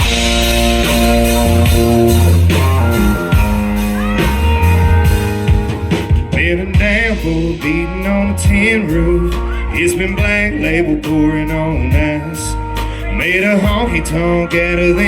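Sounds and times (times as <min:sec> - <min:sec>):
bass and drums: 0:00.0 - 0:15.0
electric guitar chords: 0:00.0 - 0:15.0
person singing: 0:00.0 - 0:15.0.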